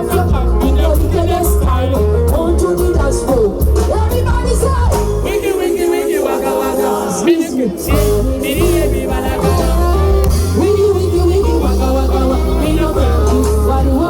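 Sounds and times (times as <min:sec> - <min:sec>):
amplified music with vocals: 0:00.0 - 0:14.0.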